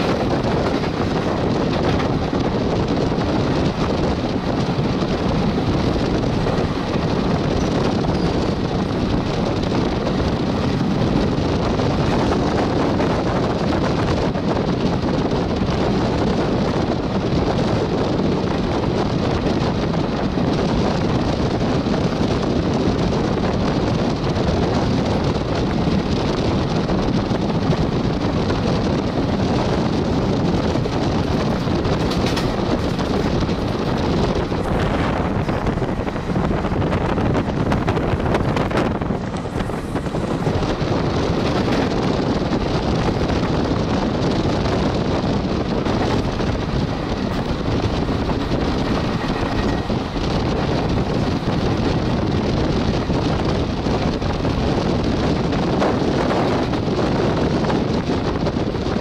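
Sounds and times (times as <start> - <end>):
train wheels rolling on track: 0.0 - 59.0
wind buffeting microphone: 0.0 - 59.0.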